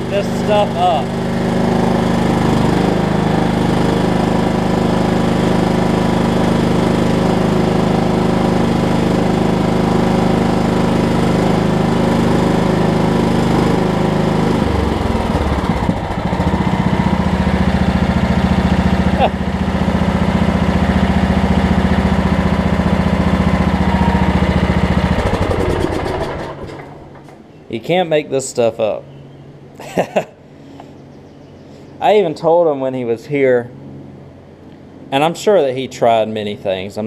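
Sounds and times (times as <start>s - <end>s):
riding mower engine running: 0.0s - 37.0s.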